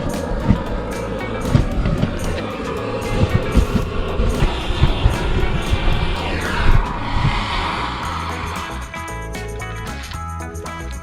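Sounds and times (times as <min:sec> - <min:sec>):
whoosh gliding down in pitch: 0:00.0 - 0:09.1
music with heavy bass beat: 0:00.0 - 0:11.0.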